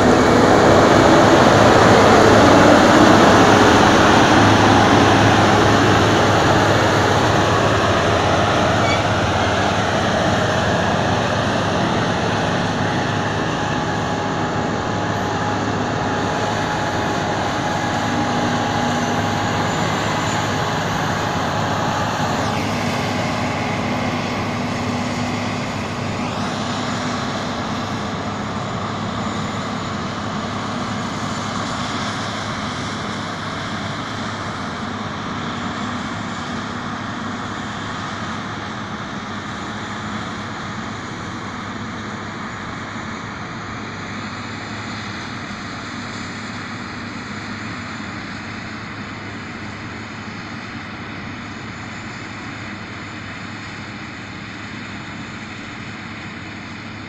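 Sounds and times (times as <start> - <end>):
forage harvester droning: 0.0 - 57.0.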